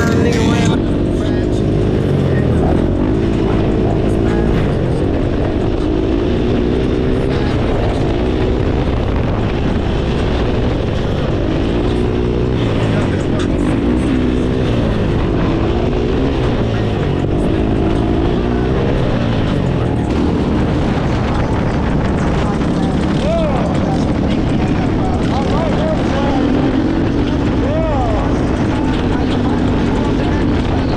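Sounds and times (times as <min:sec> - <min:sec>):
dirt bike engines revving: 0:00.0 - 0:30.9.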